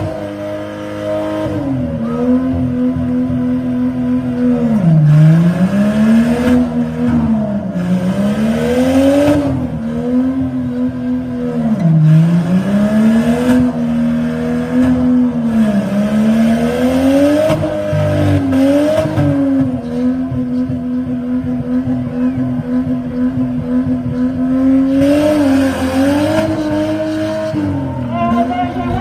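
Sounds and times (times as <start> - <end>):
truck engine revving hard: 0.0 - 29.0.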